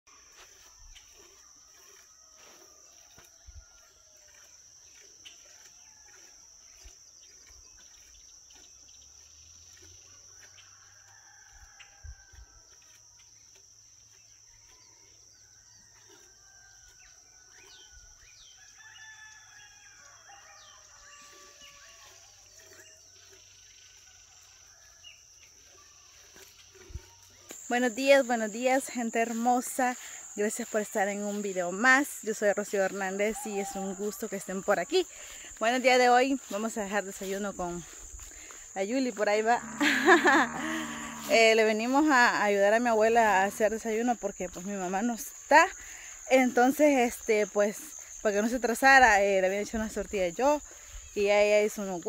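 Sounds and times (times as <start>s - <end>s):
high insect drone: 0.1s - 52.0s.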